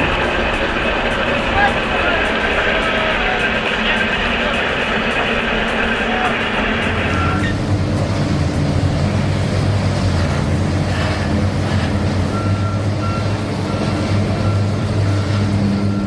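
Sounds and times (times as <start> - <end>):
backup alarm beeping: 0.0 - 16.0
heavy machine engine running: 0.0 - 16.0.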